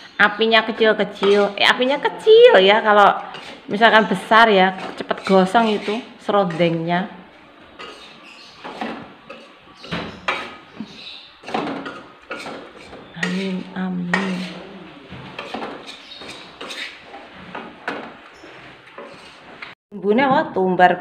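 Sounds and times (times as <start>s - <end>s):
metal spatula scraping a wok: 0.3s - 19.8s.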